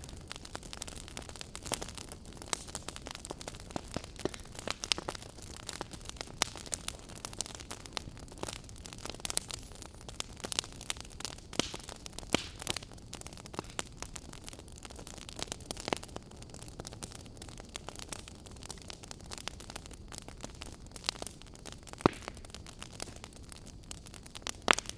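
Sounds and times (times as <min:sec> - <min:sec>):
campfire burning: 0:00.0 - 0:24.9
crackles and pops of burning wood: 0:00.0 - 0:24.9.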